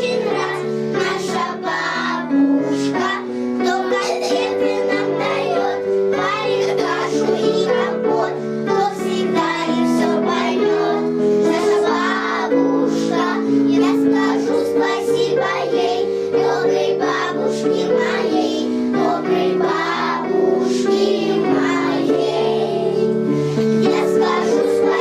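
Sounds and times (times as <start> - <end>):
children singing: 0.0 - 25.0.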